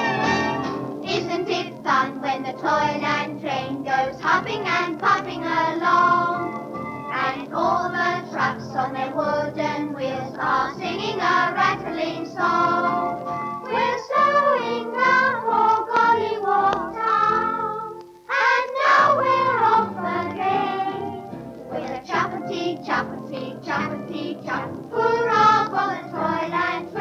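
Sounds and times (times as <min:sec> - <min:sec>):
children's song with accompaniment: 0:00.0 - 0:27.0.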